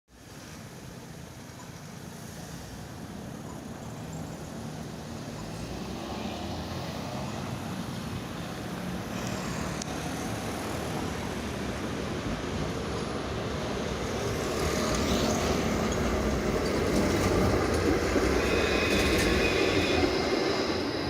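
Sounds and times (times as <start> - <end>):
road traffic rumble: 0.2 - 21.0.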